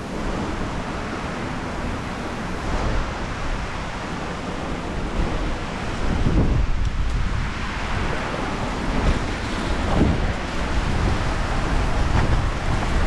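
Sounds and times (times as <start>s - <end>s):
gusting wind buffeting microphone: 0.0s - 13.0s.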